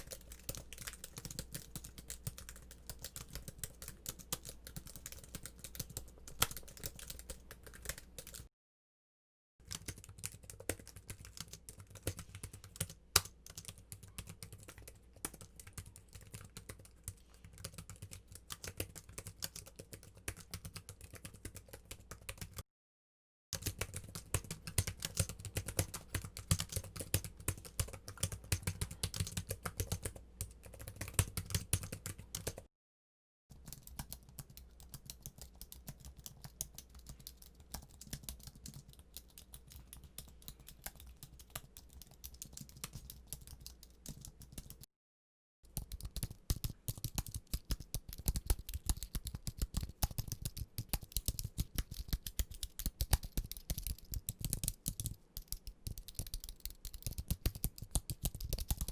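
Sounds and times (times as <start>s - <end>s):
rapid keyboard typing: 0.0s - 8.5s, 9.6s - 22.6s, 23.6s - 32.7s, 33.5s - 44.9s, 45.7s - 58.9s.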